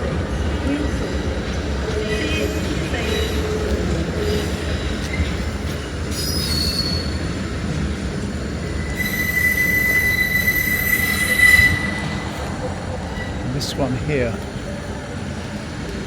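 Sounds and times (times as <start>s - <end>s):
low train rumble: 0.0s - 16.0s
train wheels squealing on rails: 0.3s - 13.6s.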